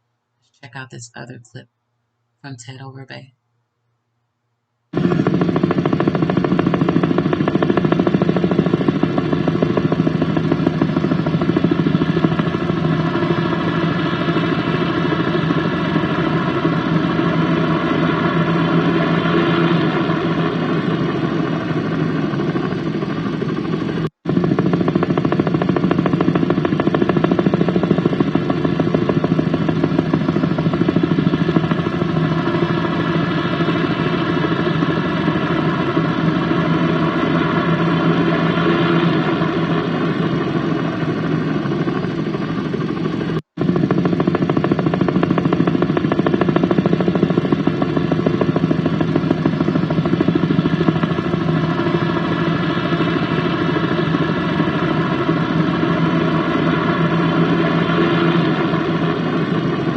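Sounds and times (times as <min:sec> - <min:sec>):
helicopter engine drone and rotor: 0:04.9 - 0:59.9.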